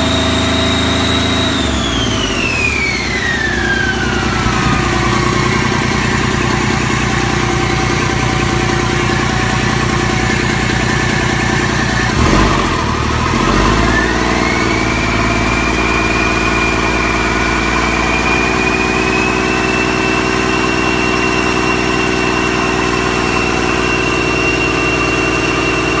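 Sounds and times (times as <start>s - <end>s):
diesel engine running: 0.0s - 26.0s
high whine: 2.7s - 26.0s.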